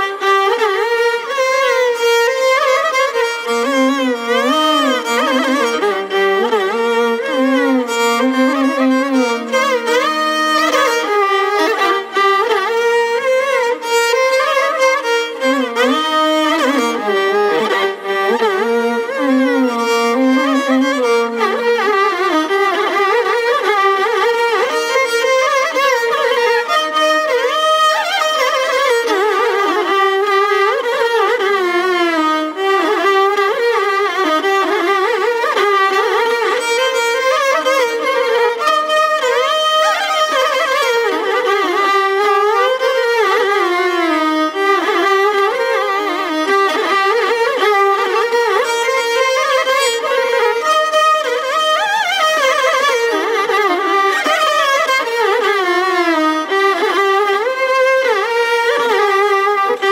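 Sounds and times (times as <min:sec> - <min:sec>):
two violins playing melody: 0:00.0 - 0:59.9.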